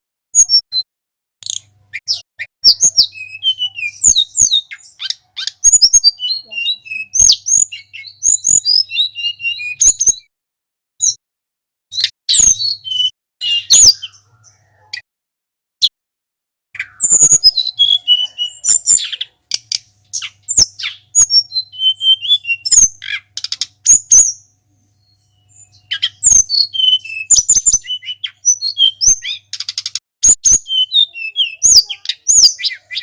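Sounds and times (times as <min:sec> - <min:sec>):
songbird whistling and chirping: 0:00.4 - 0:00.8, 0:01.4 - 0:10.3, 0:11.0 - 0:11.2, 0:12.0 - 0:15.0, 0:16.8 - 0:33.0.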